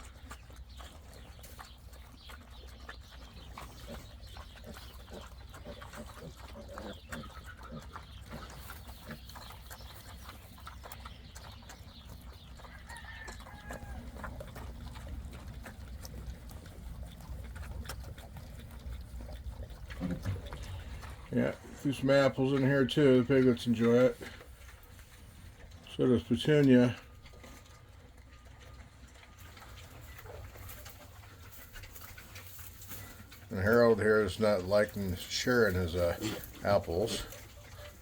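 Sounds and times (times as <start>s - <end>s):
pigs crunching and chewing: 0.0s - 38.0s.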